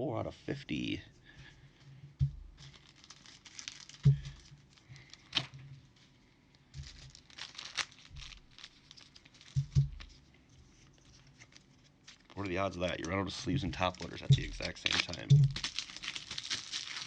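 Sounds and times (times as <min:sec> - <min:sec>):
plastic card sleeves crinkling: 0:02.6 - 0:17.0.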